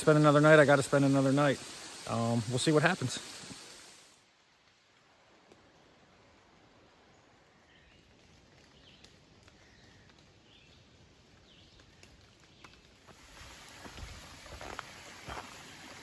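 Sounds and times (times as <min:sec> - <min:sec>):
faint woodland ambience: 0:00.0 - 0:16.0.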